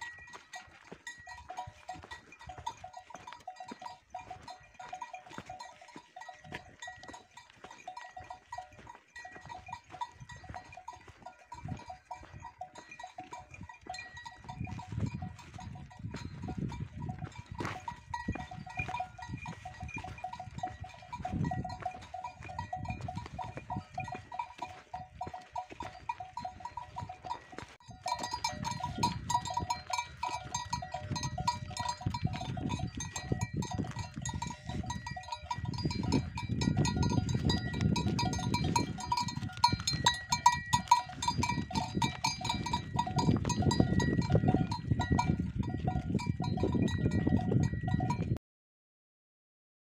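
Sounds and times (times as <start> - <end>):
cattle bells clanking: 0.0 - 48.4.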